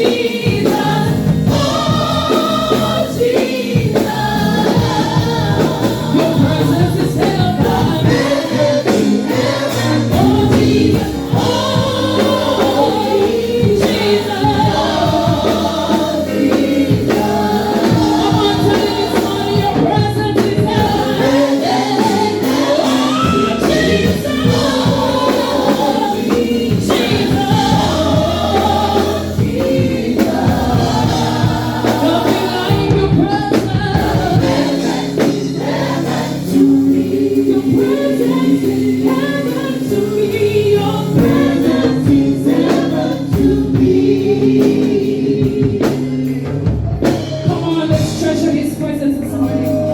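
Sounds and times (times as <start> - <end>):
choir singing a worship song: 0.0 - 49.9
instrumental accompaniment: 0.0 - 49.9.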